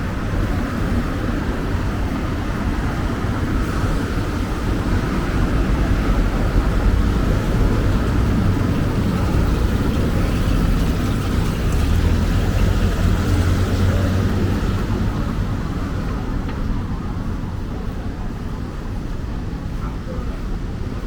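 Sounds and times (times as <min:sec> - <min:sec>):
city street traffic rumble: 0:00.0 - 0:21.0.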